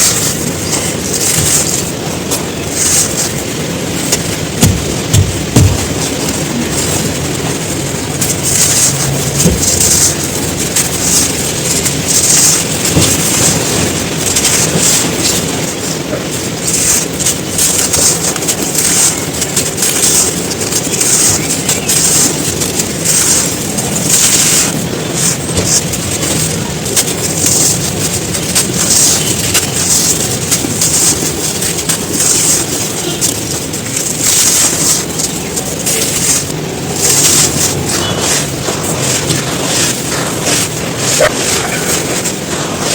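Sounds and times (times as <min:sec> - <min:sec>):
crispy sand crumbling and crunching: 0:00.0 - 0:42.9.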